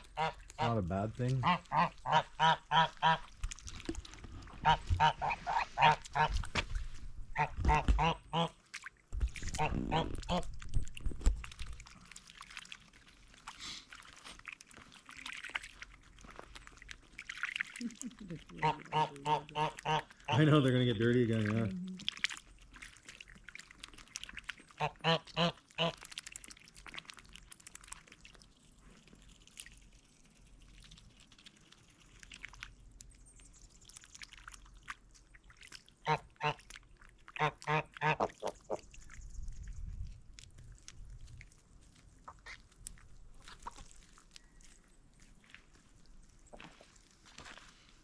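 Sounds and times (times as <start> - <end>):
small splashes: 0.0 - 48.0
water sloshing and trickling: 0.0 - 48.0.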